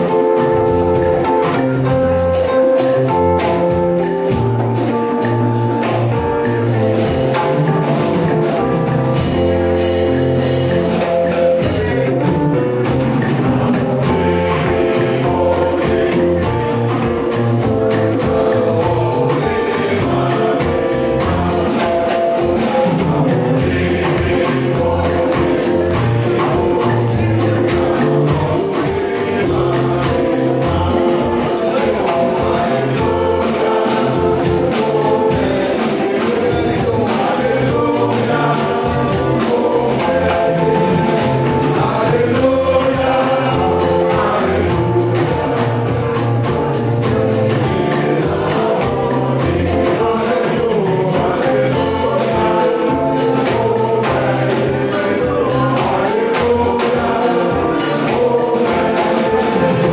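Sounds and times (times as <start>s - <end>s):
choir singing gospel song: 0.0s - 59.9s
drum kit beat: 0.0s - 59.9s
keyboard: 0.0s - 59.9s.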